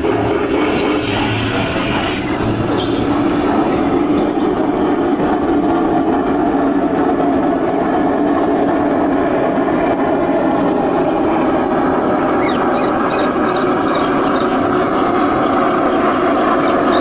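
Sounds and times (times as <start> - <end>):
model train wheels rumbling: 0.0 - 17.0.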